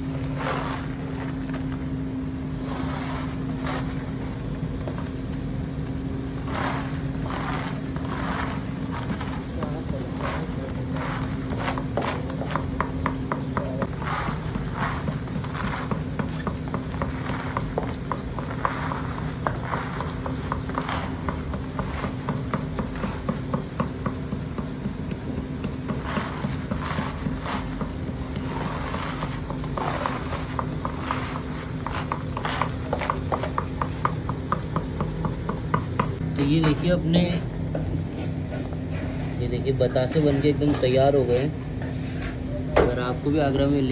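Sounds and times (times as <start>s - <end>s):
sugar drops scraped and rattling: 0.0s - 36.2s.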